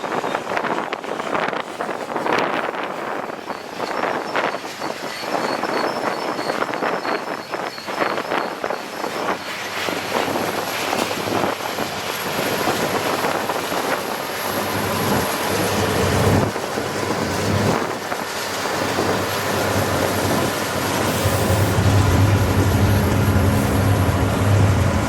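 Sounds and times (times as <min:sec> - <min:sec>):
diesel locomotive rumble: 0:03.3 - 0:25.0.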